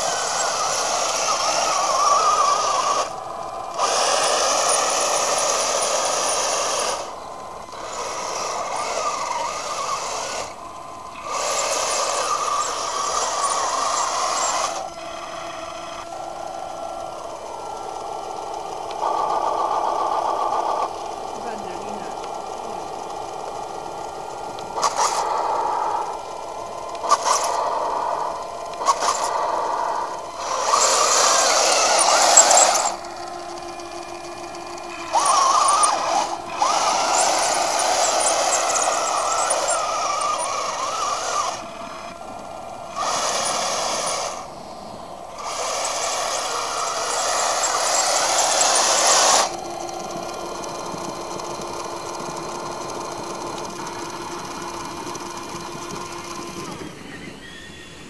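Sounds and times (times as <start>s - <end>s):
electric motor whirring: 0.0s - 58.0s.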